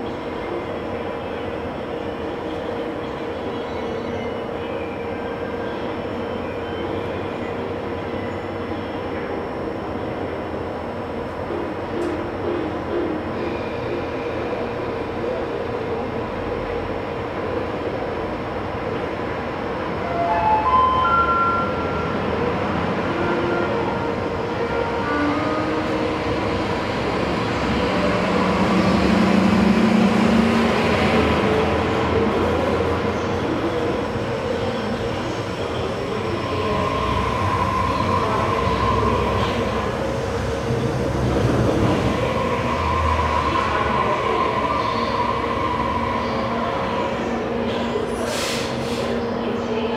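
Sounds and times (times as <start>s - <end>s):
monorail train rumbling past: 0.0s - 49.9s.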